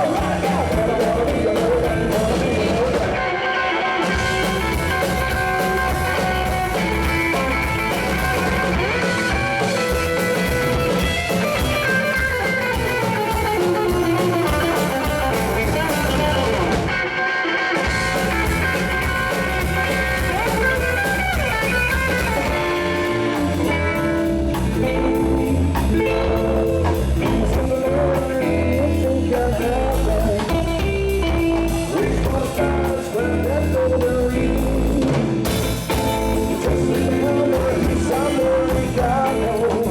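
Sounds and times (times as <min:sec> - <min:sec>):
person singing: 0:00.0 - 0:35.2, 0:36.3 - 0:39.9
bass guitar: 0:00.0 - 0:39.9
drums: 0:00.0 - 0:39.9
electric guitar: 0:00.0 - 0:39.9.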